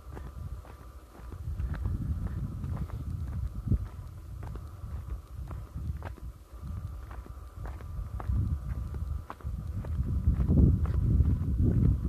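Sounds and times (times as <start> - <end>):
footsteps on sandstone: 0.0 - 12.0
low rumble on microphone: 0.0 - 12.0.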